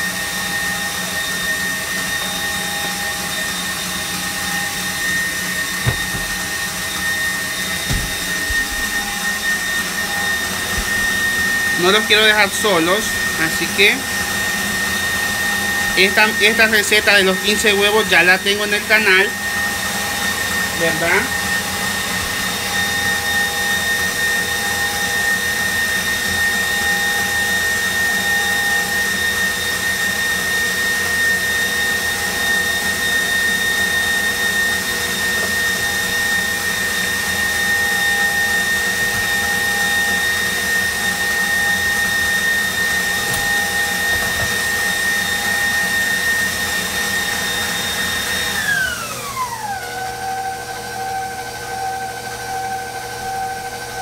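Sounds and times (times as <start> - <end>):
whisk beating batter: 0.0 - 48.6
stand mixer motor whine: 0.0 - 54.0.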